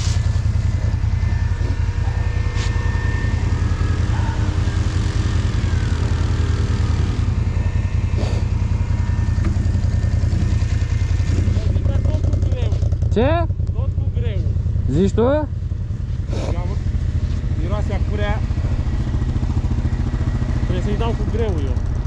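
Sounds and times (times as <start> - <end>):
atv engine droning: 0.0 - 22.0.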